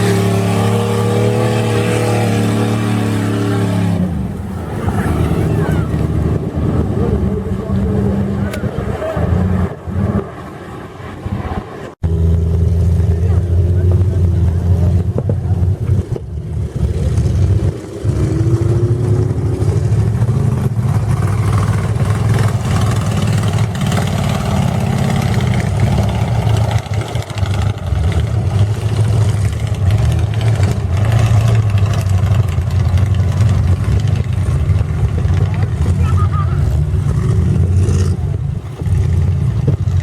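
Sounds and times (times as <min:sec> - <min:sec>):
truck engine under throttle: 0:00.0 - 0:40.0.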